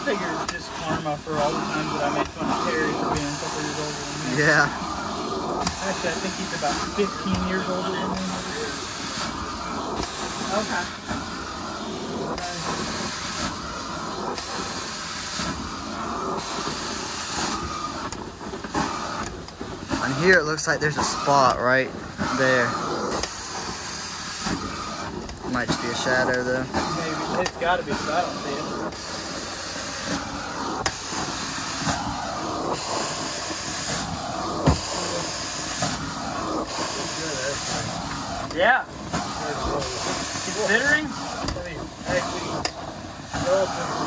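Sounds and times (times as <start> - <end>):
carpet cleaner suction rumble: 0.0 - 44.0
spray and suction hiss: 0.0 - 44.0.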